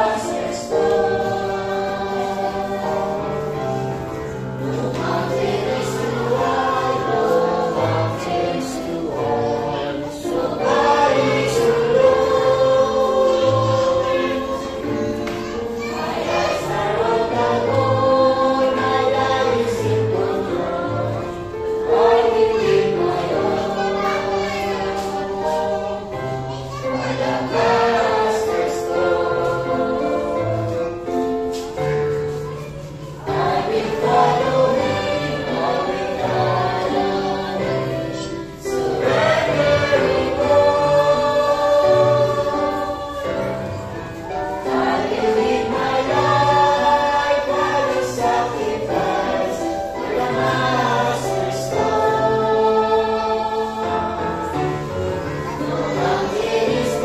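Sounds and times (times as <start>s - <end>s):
choir singing a sacred song: 0.0s - 57.0s.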